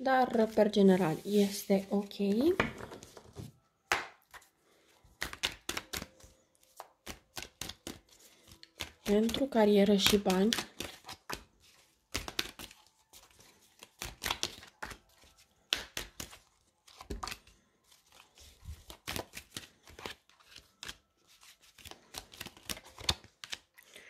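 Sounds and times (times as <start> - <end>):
cards shuffled and dealt: 2.6 - 24.0.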